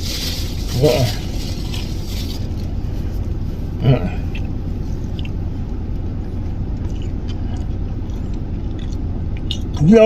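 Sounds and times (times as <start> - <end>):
low hum: 0.0 - 10.0
man chewing food: 1.2 - 9.9.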